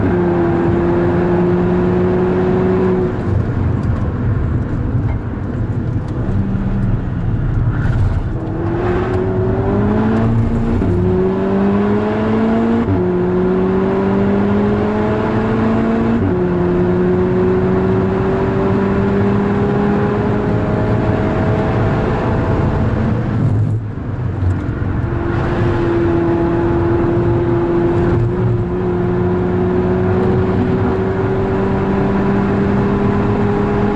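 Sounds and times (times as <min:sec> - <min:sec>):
car engine accelerating hard: 0:00.0 - 0:33.9.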